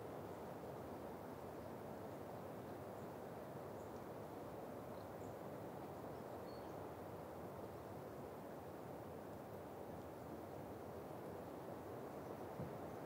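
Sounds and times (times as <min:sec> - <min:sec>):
wind through pine forest: 0:00.0 - 0:13.0.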